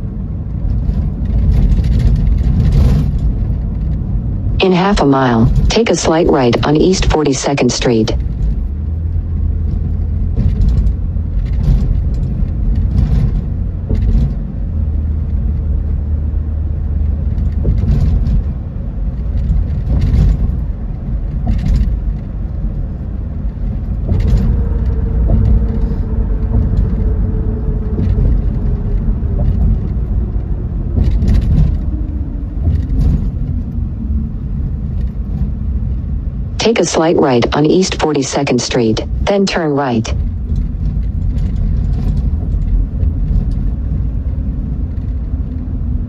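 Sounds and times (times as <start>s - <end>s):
car road and engine rumble: 0.0s - 6.6s, 7.9s - 36.7s, 40.1s - 46.0s.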